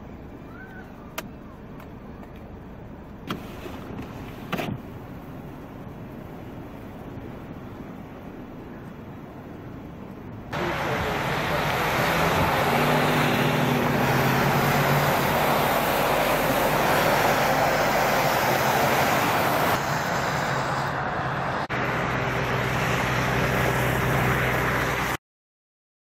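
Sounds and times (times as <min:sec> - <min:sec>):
passing traffic: 0:00.0 - 0:25.2
vehicle engines running: 0:00.0 - 0:25.2.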